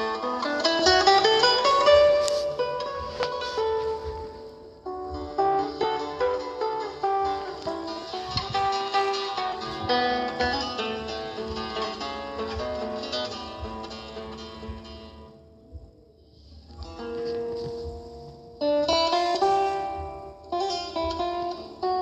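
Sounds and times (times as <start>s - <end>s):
spanish guitar melody: 0.0s - 22.0s.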